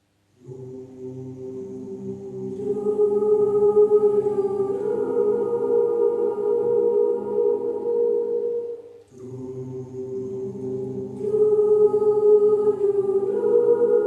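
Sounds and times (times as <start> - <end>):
choir singing held chords: 0.3 - 14.0.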